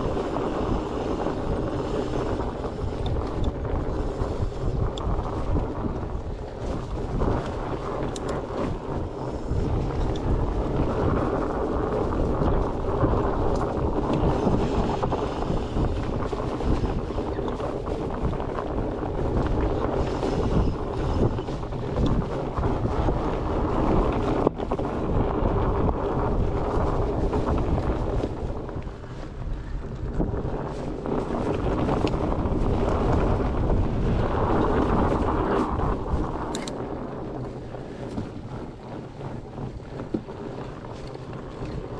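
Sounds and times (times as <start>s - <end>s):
bike tyres rolling on dirt: 0.0s - 41.9s
wind on microphone: 0.0s - 41.9s.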